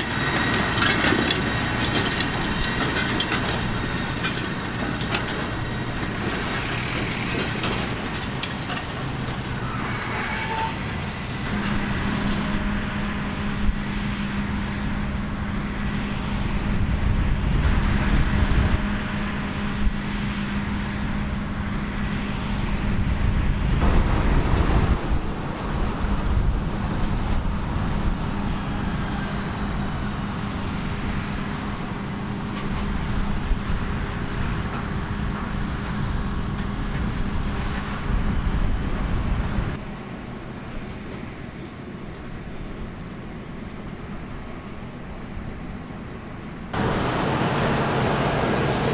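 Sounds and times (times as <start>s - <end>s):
diesel engine hum with rumble: 0.0s - 48.9s.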